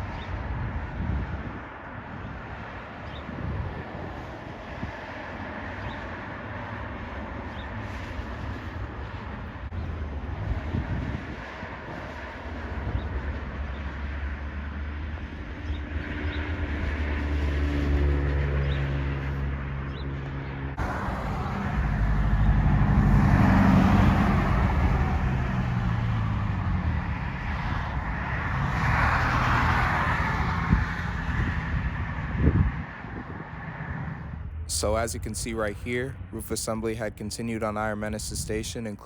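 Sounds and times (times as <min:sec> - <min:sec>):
passing traffic: 0:00.0 - 0:39.0.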